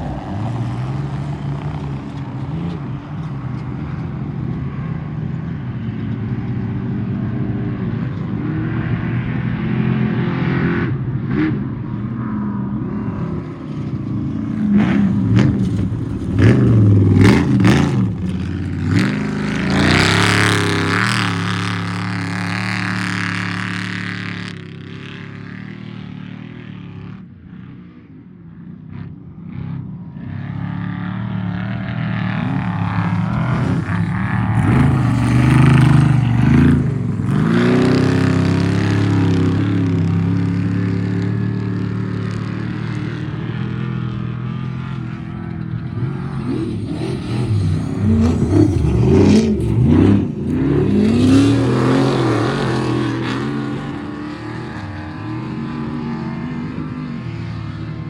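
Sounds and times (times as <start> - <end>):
truck engines revving: 0.0 - 28.0, 28.8 - 58.0.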